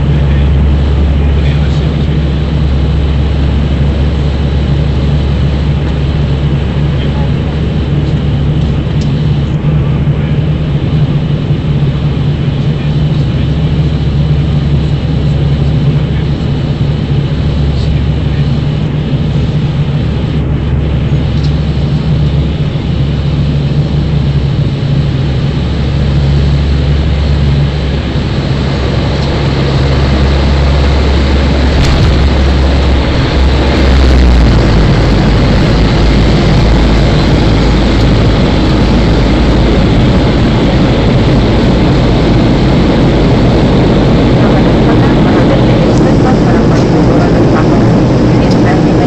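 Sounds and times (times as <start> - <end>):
airliner engines drone in cabin: 0.0 - 49.0.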